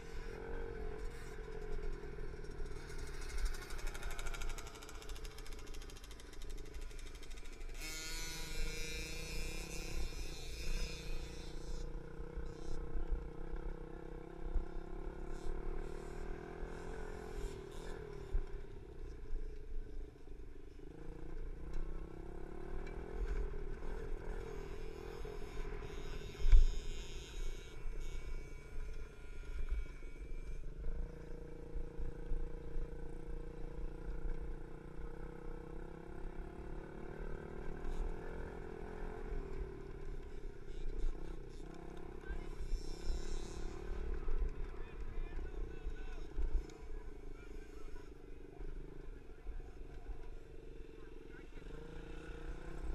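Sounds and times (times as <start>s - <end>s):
dirt bike engine revving: 0.0s - 20.2s, 20.8s - 52.9s.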